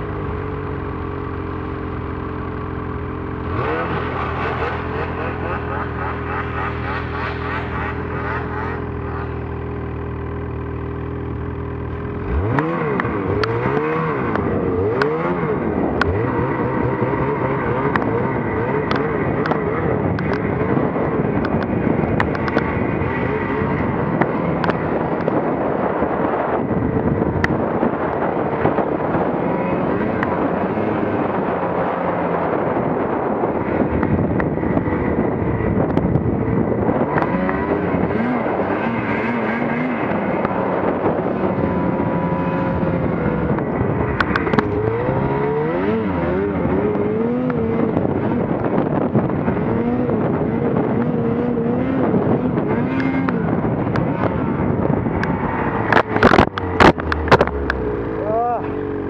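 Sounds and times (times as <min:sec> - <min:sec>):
snowmobile engine revving: 0:00.8 - 0:34.0, 0:34.7 - 0:59.0.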